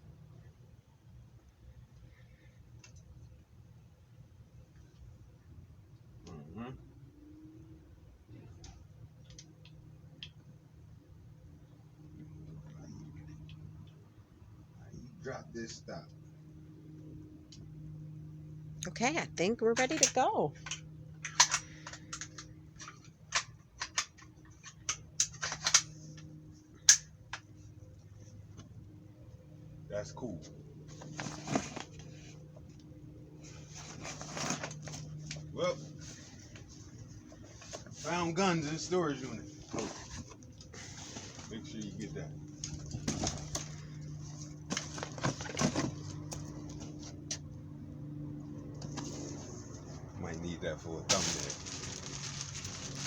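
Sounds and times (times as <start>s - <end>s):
faint low hum: 0.0s - 53.0s.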